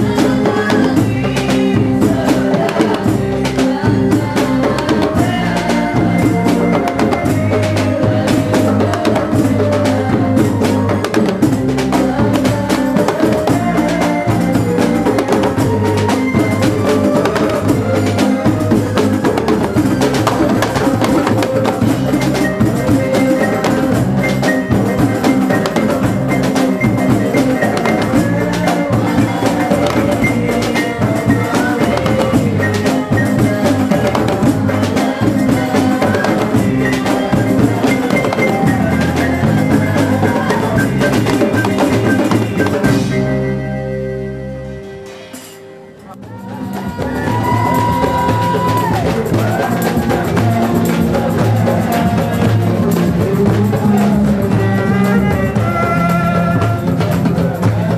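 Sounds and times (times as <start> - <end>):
drum beat: 0.0 - 43.3, 45.4 - 57.9
man singing into a microphone: 0.0 - 44.0, 46.0 - 57.9
electric guitars: 0.0 - 57.9.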